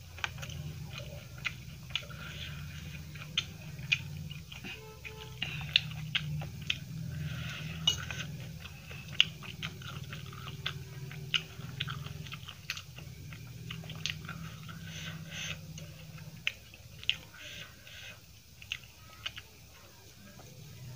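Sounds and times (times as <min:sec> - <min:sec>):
chewing food: 0:00.0 - 0:20.9.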